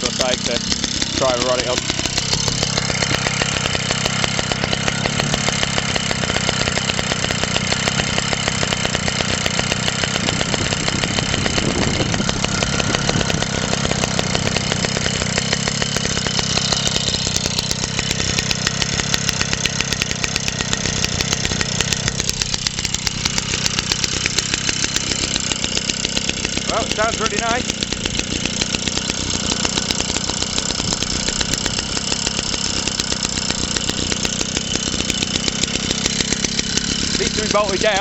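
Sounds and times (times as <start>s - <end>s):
stationary engine running: 0.0s - 38.0s.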